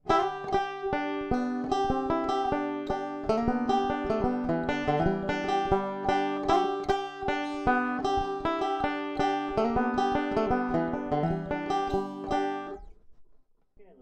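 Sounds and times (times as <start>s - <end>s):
banjo fingerpicked: 0.0s - 12.9s.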